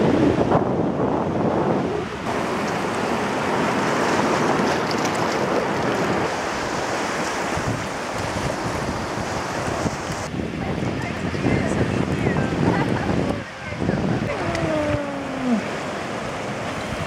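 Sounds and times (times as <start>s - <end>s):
ocean surf washing on shore: 0.0s - 17.0s
wind buffeting microphone: 0.0s - 17.0s.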